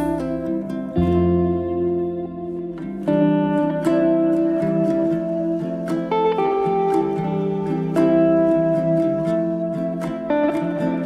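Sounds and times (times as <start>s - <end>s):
soft plucked-string melody: 0.0s - 11.0s.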